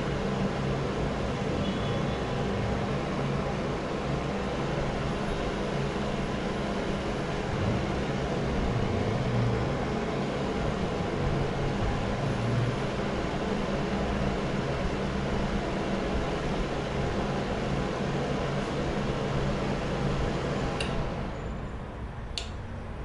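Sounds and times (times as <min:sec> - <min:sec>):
fan heater blowing air: 0:00.0 - 0:23.0.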